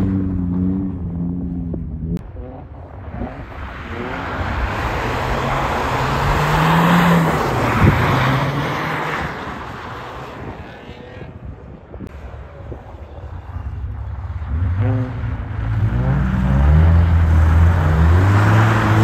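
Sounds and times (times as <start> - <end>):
car engine passing: 0.0 - 11.2, 12.3 - 19.0.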